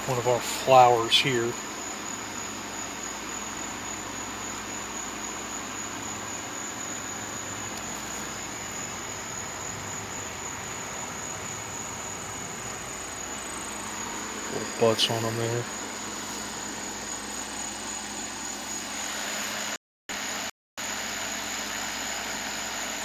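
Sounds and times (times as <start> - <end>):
crickets calling: 0.0 - 23.0
steady outdoor hiss: 0.0 - 23.0.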